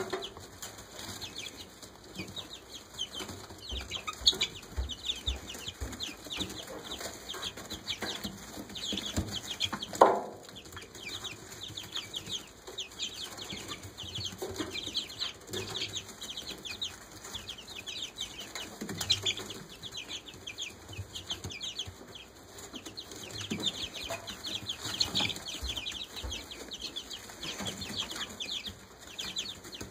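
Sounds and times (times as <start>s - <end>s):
chicks peeping: 0.0s - 29.9s.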